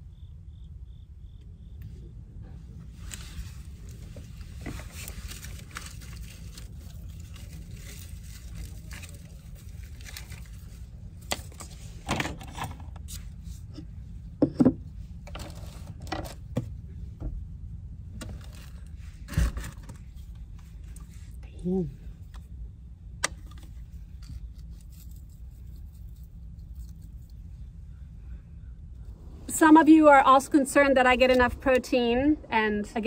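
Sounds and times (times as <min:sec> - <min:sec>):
steady low rumble: 0:00.0 - 0:12.0, 0:12.6 - 0:33.0.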